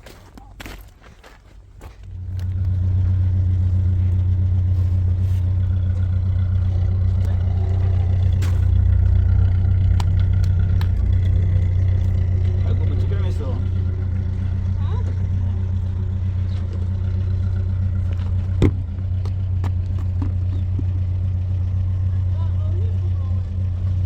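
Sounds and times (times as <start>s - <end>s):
engine starting and humming: 2.0s - 24.0s.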